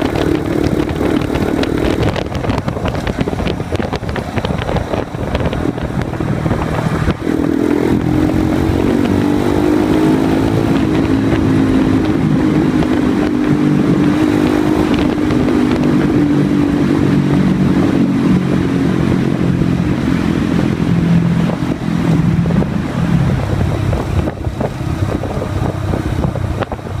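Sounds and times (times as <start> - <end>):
loud motorcycle engine revving: 0.0 - 27.0.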